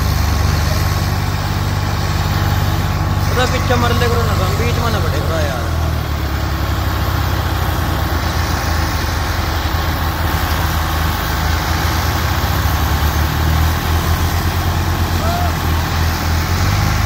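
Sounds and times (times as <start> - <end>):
tractor engines rumbling: 0.0 - 17.0.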